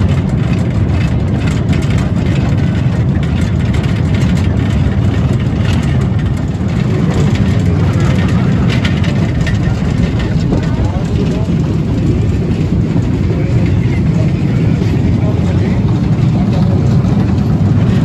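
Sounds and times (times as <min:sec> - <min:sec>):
train rumbling and clattering: 0:00.0 - 0:18.0.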